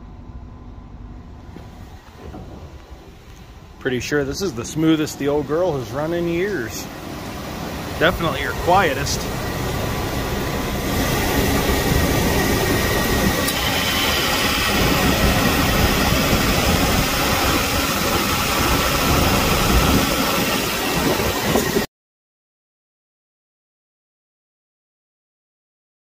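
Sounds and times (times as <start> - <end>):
car engine idling: 0.0 - 21.6.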